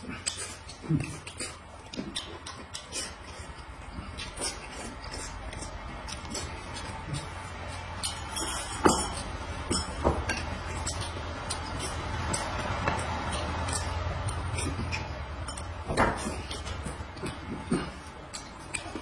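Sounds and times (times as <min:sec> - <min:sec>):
chopsticks and spoon clinking on plates: 0:00.3 - 0:19.0.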